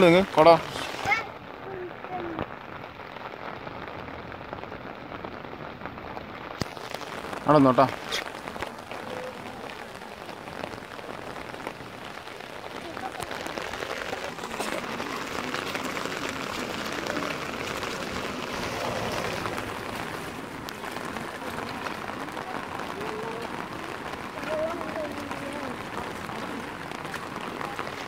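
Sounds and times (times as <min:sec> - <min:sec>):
rain falling: 0:00.0 - 0:28.0
ticks of single raindrops: 0:00.0 - 0:28.0.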